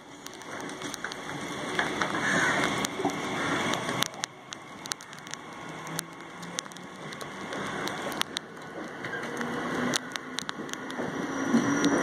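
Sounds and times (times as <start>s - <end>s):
electric train running: 0.0s - 12.0s
steady rain: 0.0s - 12.0s
sharp ticks: 0.2s - 11.0s.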